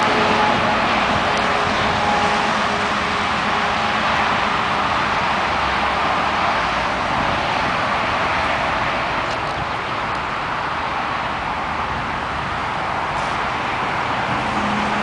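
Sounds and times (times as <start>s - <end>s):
freeway traffic hiss and rumble: 0.0s - 15.0s.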